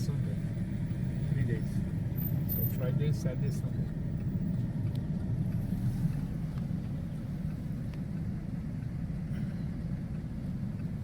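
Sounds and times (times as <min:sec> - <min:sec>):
road and engine rumble in vehicle: 0:00.0 - 0:11.0.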